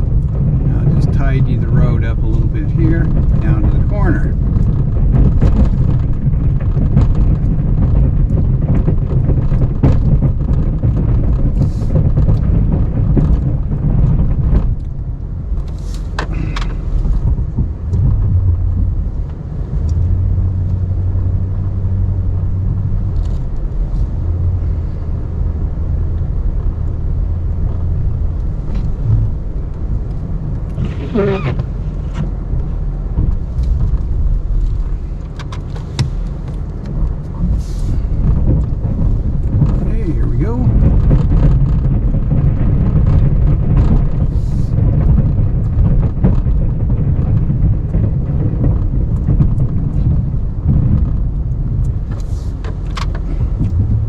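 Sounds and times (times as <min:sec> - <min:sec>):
knocks and clunks: 0:00.0 - 0:25.1, 0:27.6 - 0:54.0
pickup truck engine running: 0:00.0 - 0:54.0.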